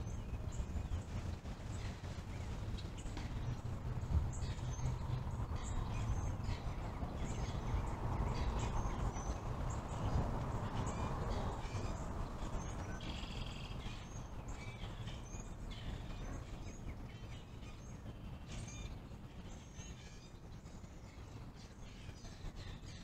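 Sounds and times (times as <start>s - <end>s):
birds chirping and calling: 0.0s - 23.0s
distant road traffic rumble: 0.0s - 23.0s.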